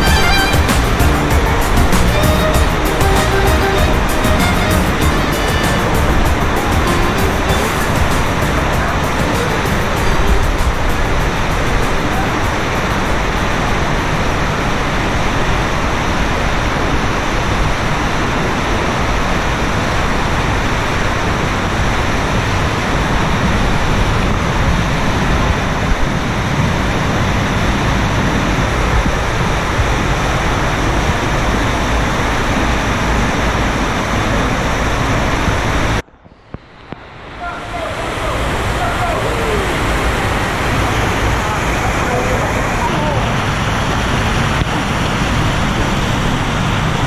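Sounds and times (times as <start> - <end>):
waterfall rushing: 0.0 - 36.0, 36.8 - 47.0.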